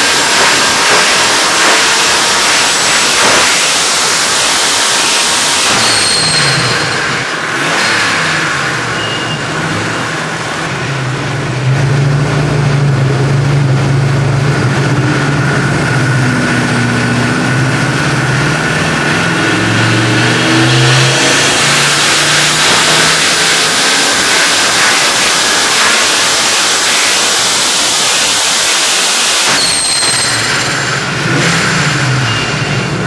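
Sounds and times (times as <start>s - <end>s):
exhaust and intake rush: 0.0s - 33.0s
turbo car engine revving: 0.0s - 33.0s.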